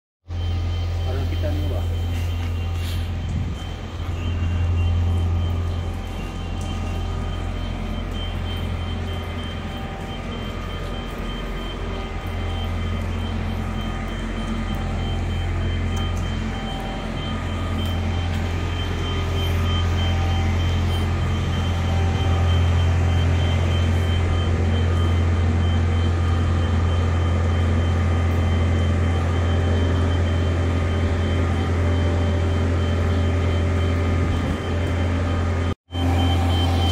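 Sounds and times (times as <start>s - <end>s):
diesel engine drone: 0.3s - 36.9s.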